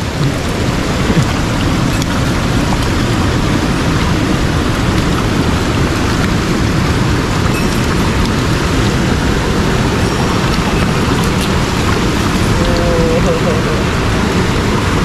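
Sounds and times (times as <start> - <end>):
stream water running over rocks: 0.0 - 15.0.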